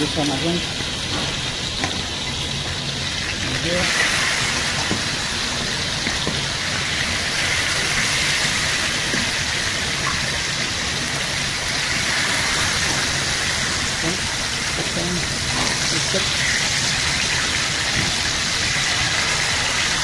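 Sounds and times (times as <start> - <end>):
chicken sizzling in frying pan: 0.0 - 20.0.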